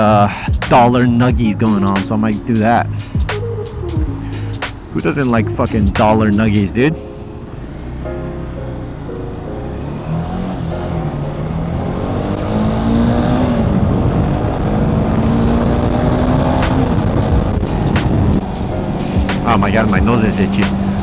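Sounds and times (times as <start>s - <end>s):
motorcycle engine accelerating: 3.9s - 21.0s.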